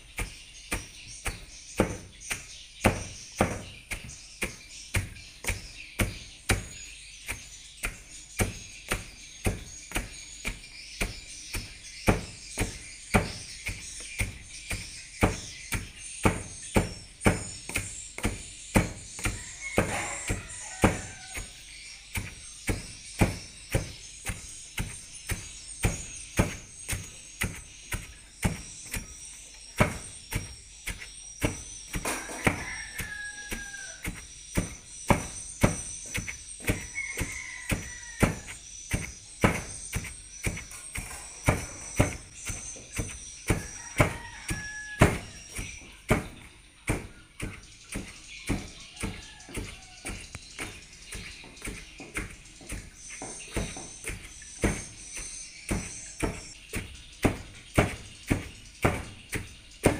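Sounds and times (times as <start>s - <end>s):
pestle pounding in plastic tub: 0.0s - 59.9s.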